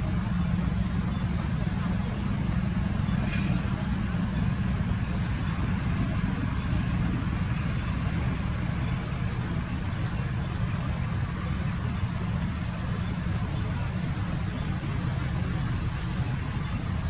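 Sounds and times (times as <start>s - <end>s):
faint hiss: 0.0s - 17.0s
steady low rumble: 0.0s - 17.0s.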